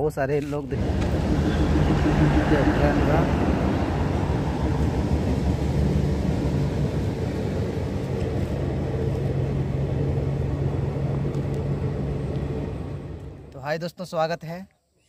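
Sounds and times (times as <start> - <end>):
train wheels rumbling on rails: 0.7 - 13.5
low engine hum: 0.7 - 13.6.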